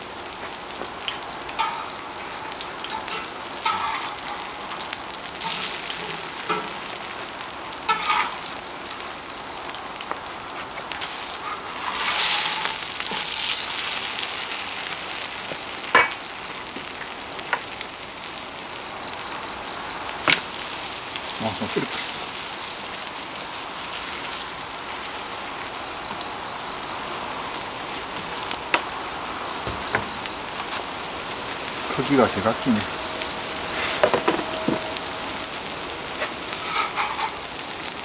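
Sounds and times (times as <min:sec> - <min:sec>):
oil sizzling: 0:00.0 - 0:38.0.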